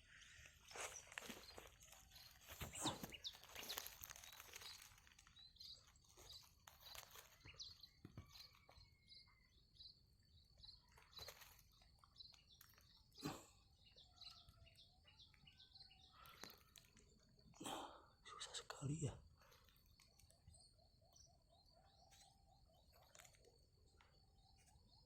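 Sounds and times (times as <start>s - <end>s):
faint high bird chirps: 0.0s - 25.0s.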